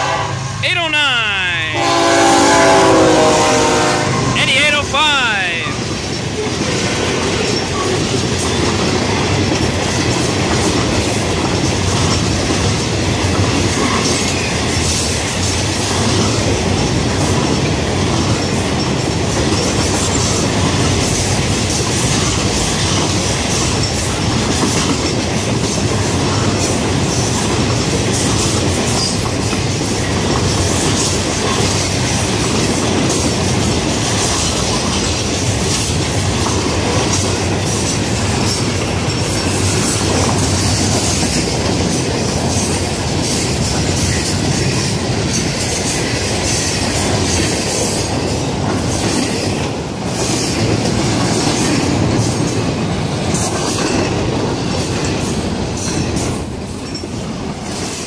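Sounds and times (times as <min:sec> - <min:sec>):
train wheels rumbling on rail: 0:01.8 - 0:04.4, 0:05.7 - 0:58.0
clickety-clack over rail joints: 0:05.8 - 0:58.0.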